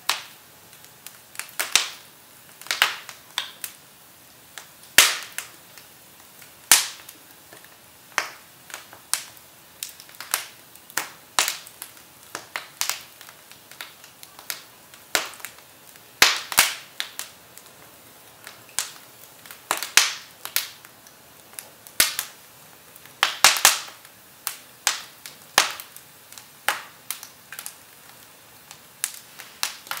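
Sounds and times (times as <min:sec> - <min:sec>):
firewood crackling and popping: 0:00.0 - 0:30.0.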